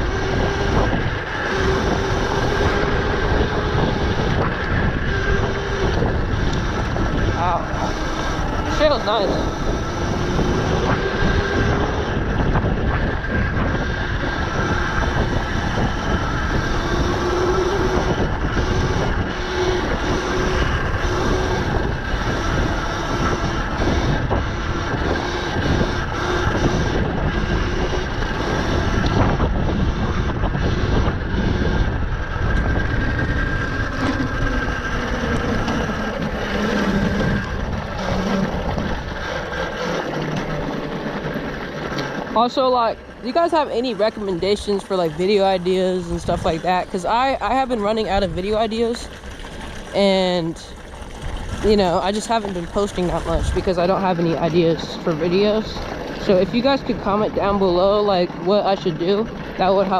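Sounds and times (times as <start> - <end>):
electric motor whine: 0.0 - 59.9
tyre and trail noise: 0.0 - 59.9
wind buffeting microphone: 0.0 - 59.9.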